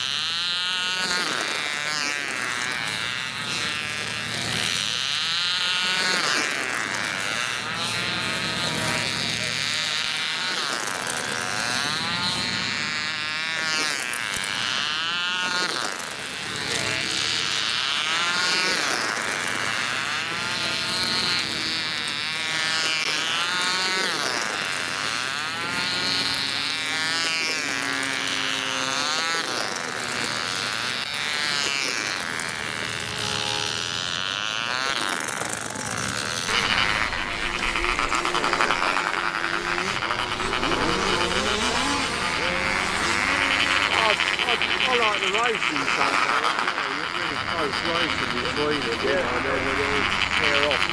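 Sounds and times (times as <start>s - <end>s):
model engines buzzing at high revs: 0.0s - 50.9s.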